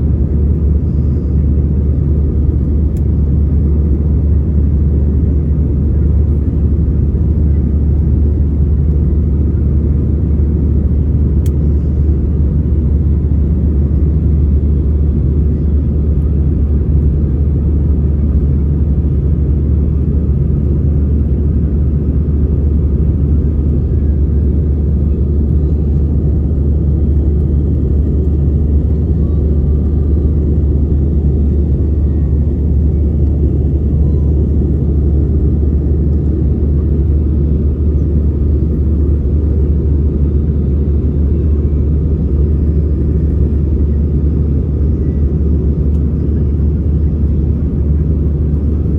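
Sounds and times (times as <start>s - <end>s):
airliner cabin engine drone: 0.0s - 48.9s.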